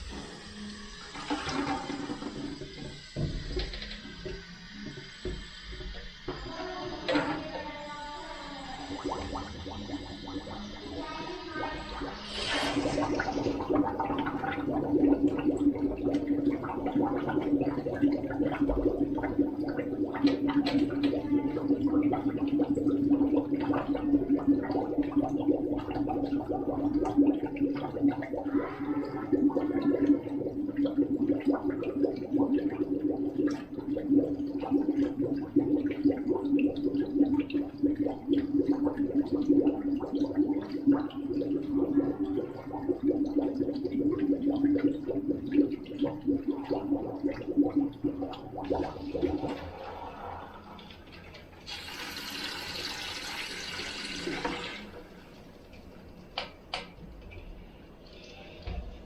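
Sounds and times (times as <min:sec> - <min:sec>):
water gurgling and popping: 0:00.0 - 0:59.0.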